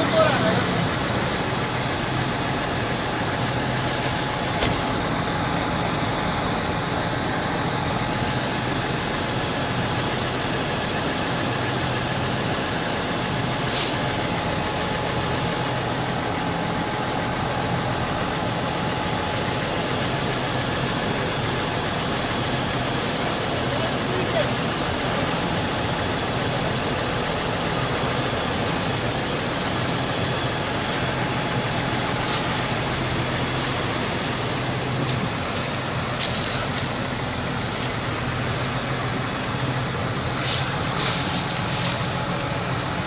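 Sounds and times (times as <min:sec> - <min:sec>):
tractor diesel engines running: 0:00.0 - 0:43.0.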